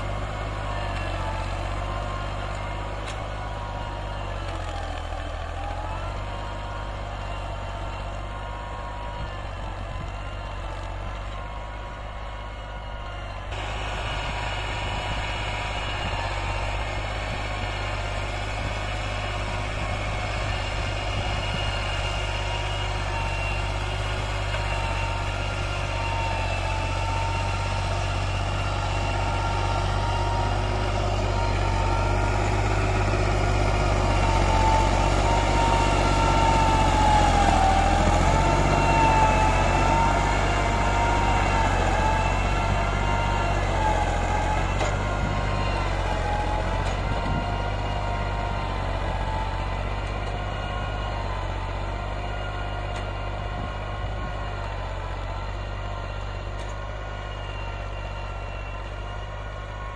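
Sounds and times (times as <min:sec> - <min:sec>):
tractor diesel engine under load: 0:00.0 - 0:59.9
wavering engine whine: 0:00.0 - 0:59.9.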